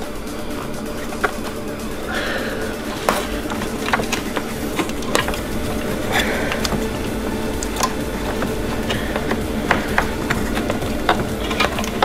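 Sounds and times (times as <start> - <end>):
cable and wire loom clicking: 0.0 - 12.0
steady low background noise: 0.0 - 12.0.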